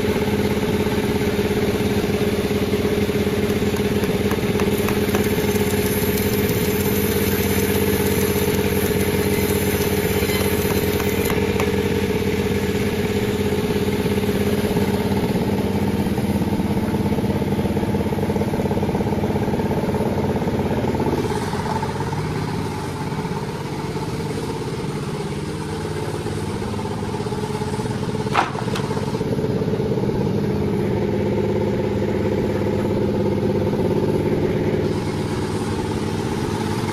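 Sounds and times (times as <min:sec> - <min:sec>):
sawmill engine running: 0:00.0 - 0:36.9.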